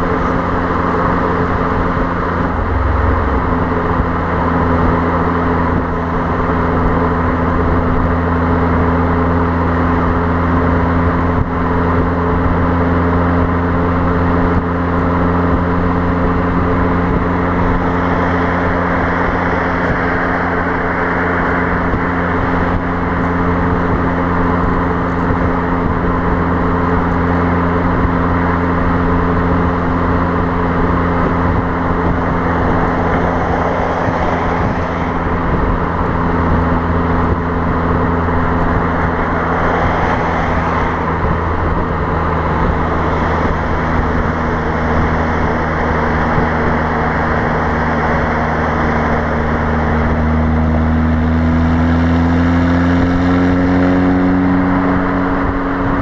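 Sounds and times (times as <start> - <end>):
car exhaust droning: 0.0 - 56.0
road noise: 0.0 - 56.0
wind noise on microphone: 0.0 - 56.0.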